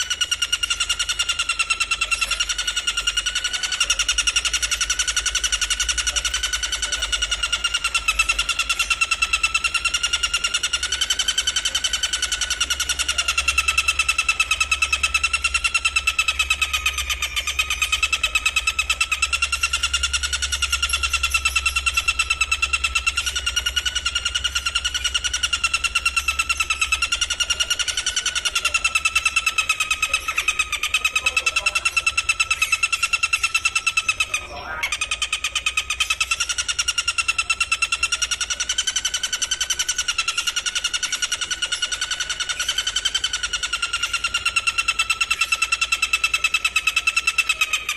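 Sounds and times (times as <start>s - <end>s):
insect trilling: 0.0s - 47.9s.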